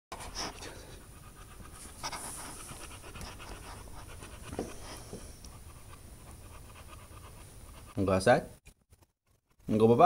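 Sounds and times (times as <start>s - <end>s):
dog panting rapidly: 0.1s - 8.4s.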